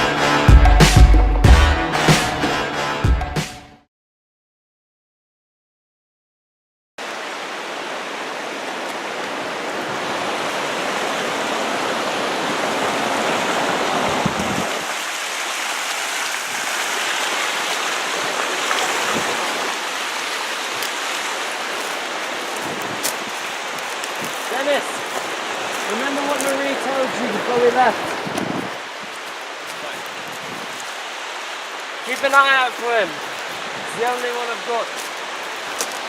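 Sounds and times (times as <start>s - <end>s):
rushing river water: 7.0s - 36.0s.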